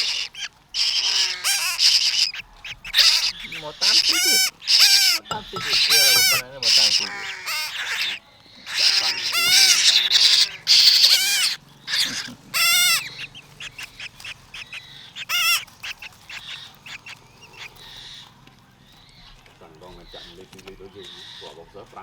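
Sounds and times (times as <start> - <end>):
bird chirps: 0.0 - 21.6
baby birds begging shrilly: 0.0 - 22.0.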